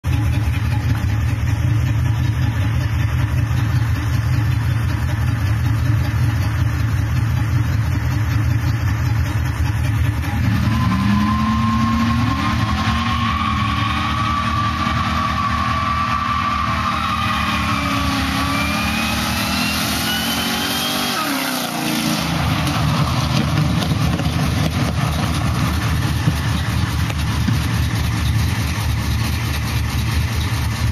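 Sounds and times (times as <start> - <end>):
truck engine at high revs: 0.0 - 30.9
supercharger whining: 0.1 - 30.9.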